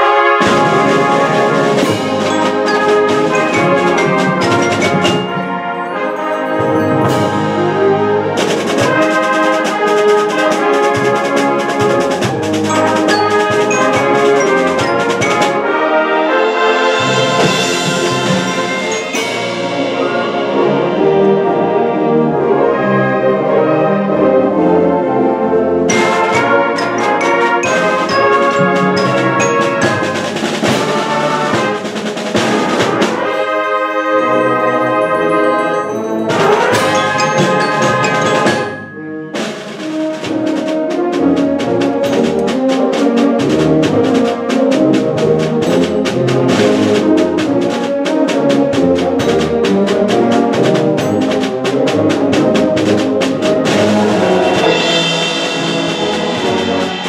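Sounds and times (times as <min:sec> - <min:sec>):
rapid percussion strokes: 0:00.0 - 0:22.3, 0:25.9 - 0:57.0
brass: 0:00.0 - 0:57.0
concert band playing: 0:00.0 - 0:57.0.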